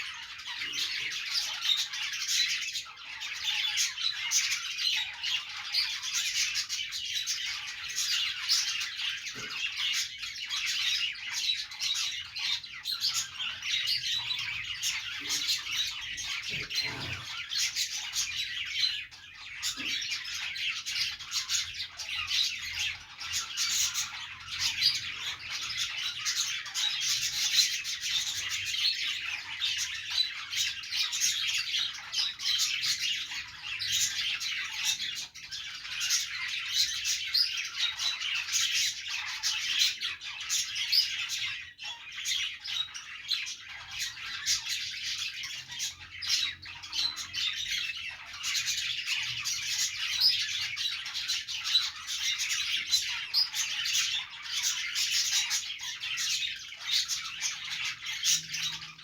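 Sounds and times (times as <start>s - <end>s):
budgerigars chirping: 0.0s - 59.0s.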